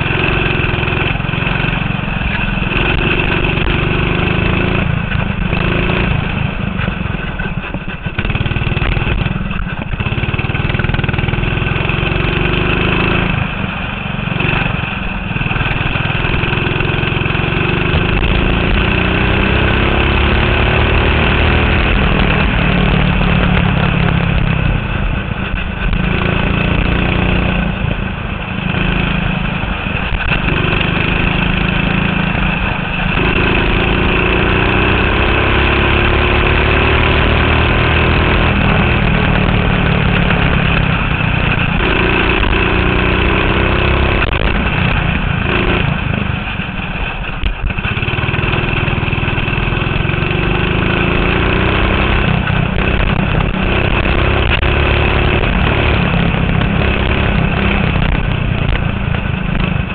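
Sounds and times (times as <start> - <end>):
go-kart engine accelerating: 0.0 - 59.9.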